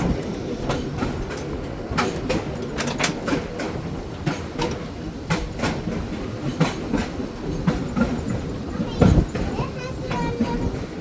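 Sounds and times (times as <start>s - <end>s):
trolley car rumble: 0.0s - 11.0s
wheels clicking over rails: 0.0s - 11.0s.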